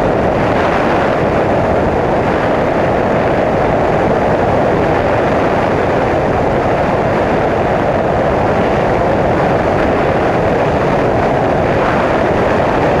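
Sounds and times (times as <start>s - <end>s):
aircraft engine and air rush: 0.0s - 13.0s.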